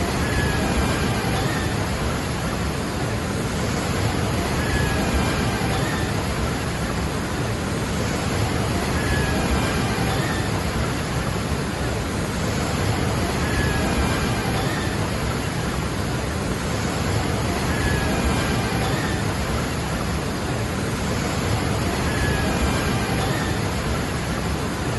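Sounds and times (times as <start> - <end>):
waterfall roaring: 0.0 - 24.9.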